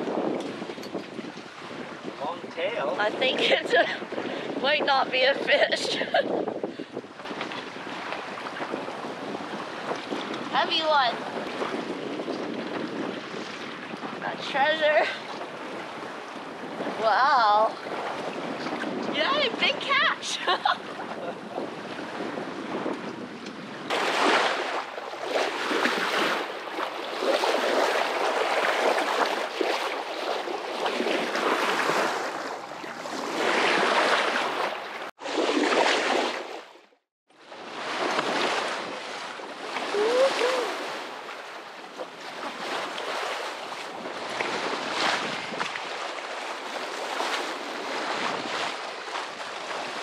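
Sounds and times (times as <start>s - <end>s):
wind buffeting microphone: 0.0s - 36.4s, 37.6s - 50.0s
sea water rushing and splashing: 0.0s - 50.0s.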